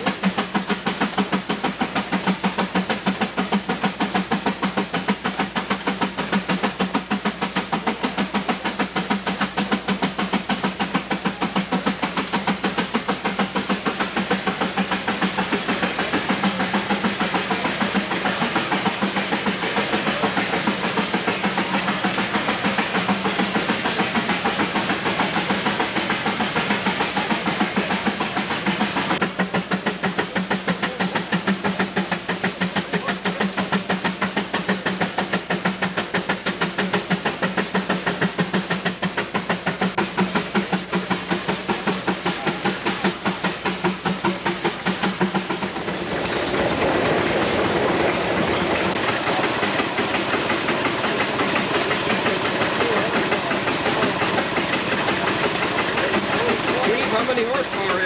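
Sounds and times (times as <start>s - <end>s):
steam engine exhaust chuffs: 0.0s - 58.0s
steam hissing: 0.0s - 58.0s.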